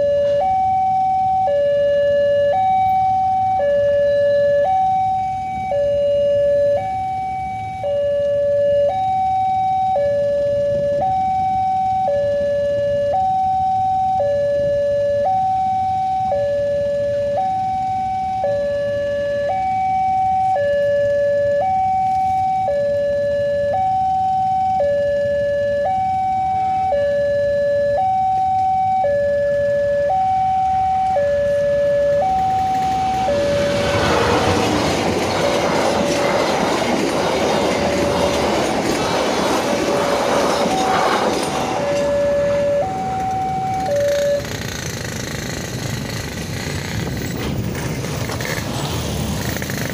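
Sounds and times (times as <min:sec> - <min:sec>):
approaching train: 0:00.0 - 0:25.0, 0:25.6 - 0:49.9
level crossing two-tone alarm: 0:00.0 - 0:35.0, 0:37.6 - 0:44.5.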